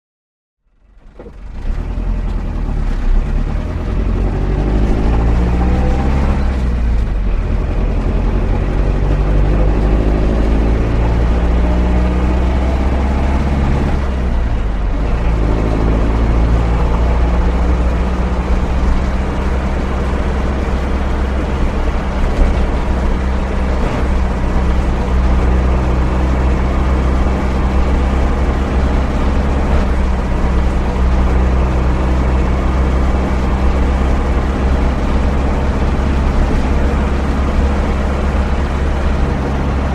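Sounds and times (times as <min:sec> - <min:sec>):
van engine running: 0:00.7 - 0:39.9
heavy low rumble: 0:00.8 - 0:39.9.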